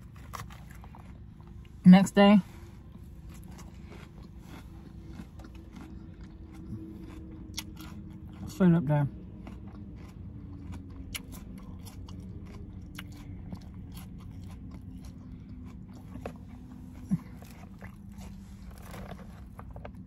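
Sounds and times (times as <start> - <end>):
person chewing food: 0.0 - 1.8, 2.5 - 20.0
mouth clicks and crunches: 2.9 - 8.6, 9.2 - 20.0.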